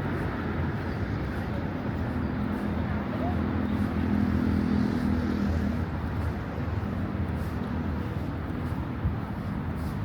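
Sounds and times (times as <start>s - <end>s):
street hum: 0.0s - 10.0s.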